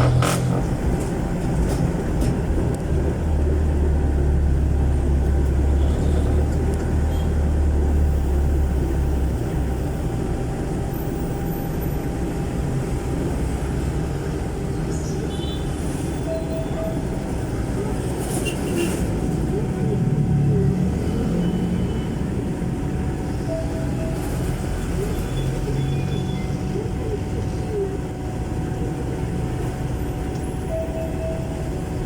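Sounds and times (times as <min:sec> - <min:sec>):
diesel engine exhaust drone: 0:00.0 - 0:18.2, 0:19.1 - 0:32.0.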